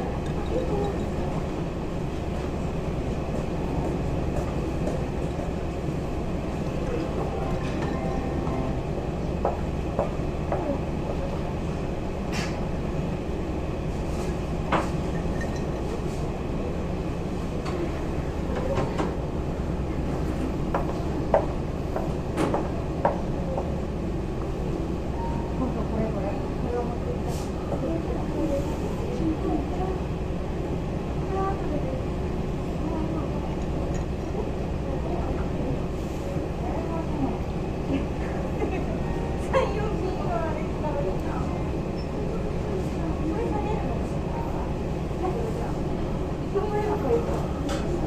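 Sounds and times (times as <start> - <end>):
ship engines rumbling: 0.0 - 48.0.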